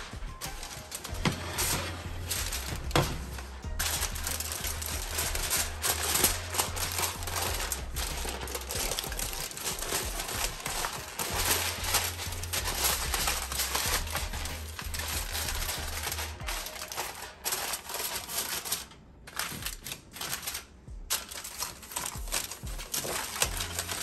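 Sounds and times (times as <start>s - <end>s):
aluminum foil crinkling: 0.0s - 24.0s.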